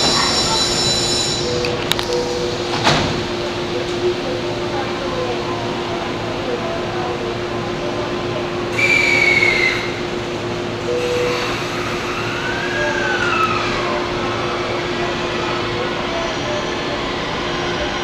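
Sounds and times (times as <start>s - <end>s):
train electrical hum: 0.0s - 18.0s.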